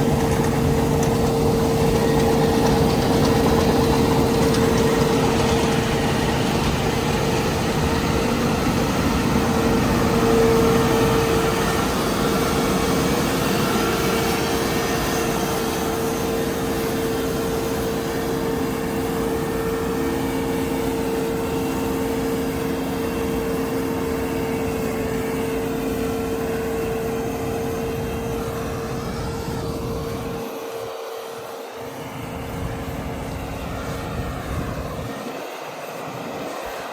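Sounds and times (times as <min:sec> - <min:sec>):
combine harvester droning: 0:00.0 - 0:36.9.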